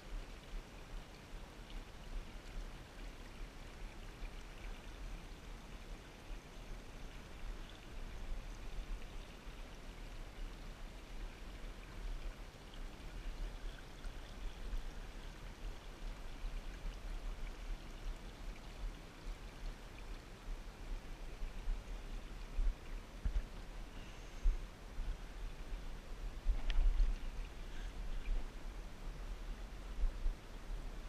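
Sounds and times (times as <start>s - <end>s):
creek trickling over rocks: 0.0s - 31.0s.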